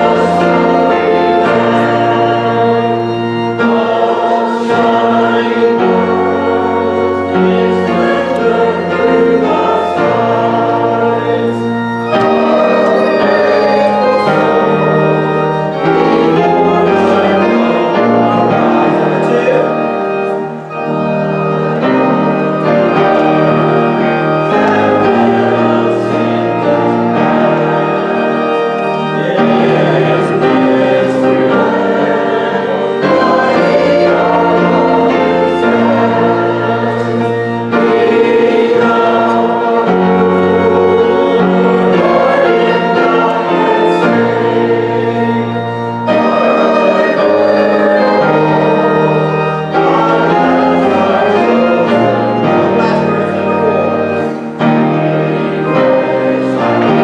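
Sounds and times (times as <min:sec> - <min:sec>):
congregation and choir singing hymn: 0:00.0 - 0:57.0.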